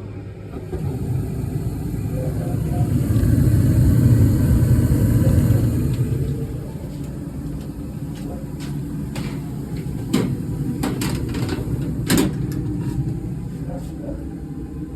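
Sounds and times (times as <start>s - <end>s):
furnace rumbling: 0.5s - 14.9s.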